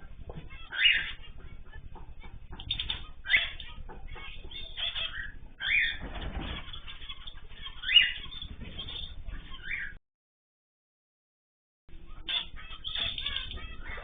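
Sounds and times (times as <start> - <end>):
cage birds chirping: 0.0 - 10.0, 11.9 - 14.0
sharp bird calls: 0.3 - 10.0, 12.2 - 14.0.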